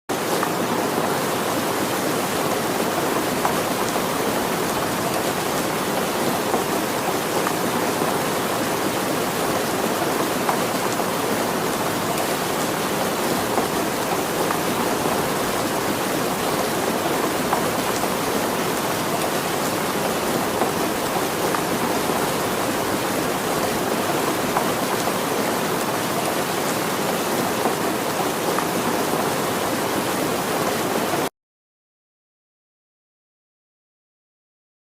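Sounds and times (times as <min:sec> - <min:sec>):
floodwater rushing: 0:00.1 - 0:31.3.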